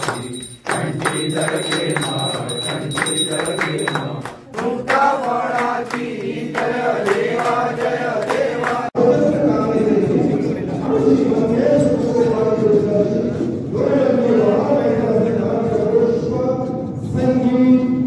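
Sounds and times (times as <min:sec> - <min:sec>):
group chanting a prayer: 0:00.0 - 0:16.7.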